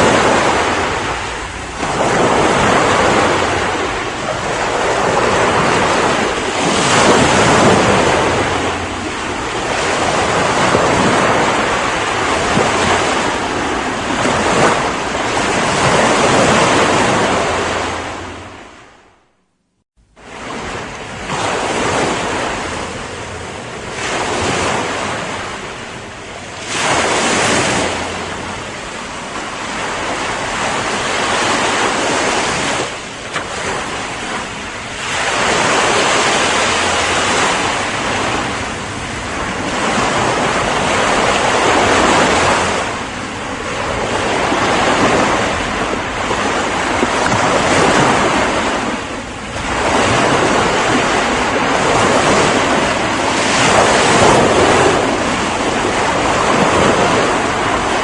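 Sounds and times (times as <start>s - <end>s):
waves breaking on shore: 0.0s - 19.3s, 20.0s - 58.0s.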